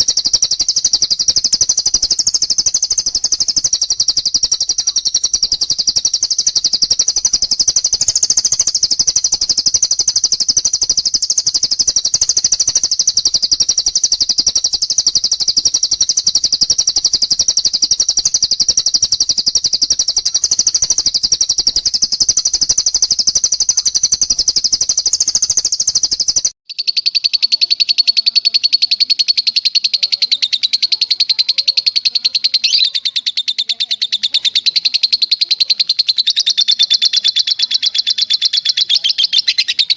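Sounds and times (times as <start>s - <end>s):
high-pitched bird trill: 0.0s - 39.9s
lower bird trill: 0.0s - 39.9s.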